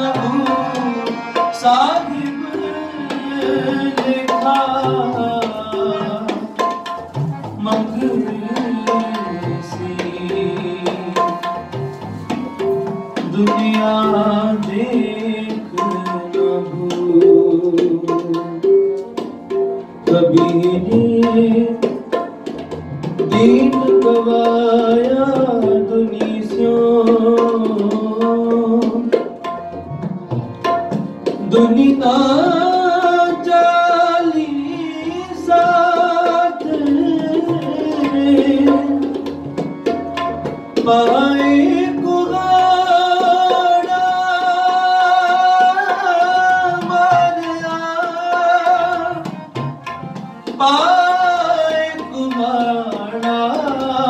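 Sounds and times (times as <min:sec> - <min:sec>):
person singing devotional song: 0:00.0 - 0:12.6, 0:13.2 - 0:18.8, 0:19.9 - 0:22.2, 0:23.3 - 0:29.2, 0:31.1 - 0:39.8, 0:40.5 - 0:54.0
tabla strokes: 0:00.0 - 0:34.3, 0:35.0 - 0:54.0.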